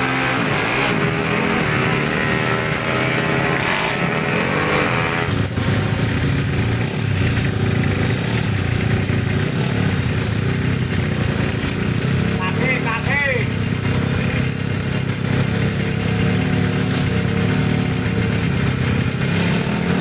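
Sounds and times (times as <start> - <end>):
two-stroke motorcycle engines revving: 0.0 - 20.0.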